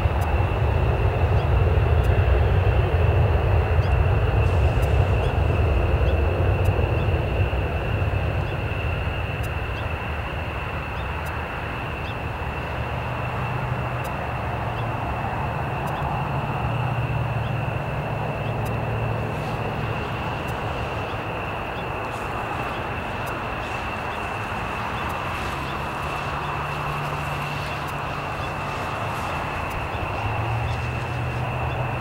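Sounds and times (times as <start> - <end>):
jet engines rumbling and whining: 0.0 - 32.0.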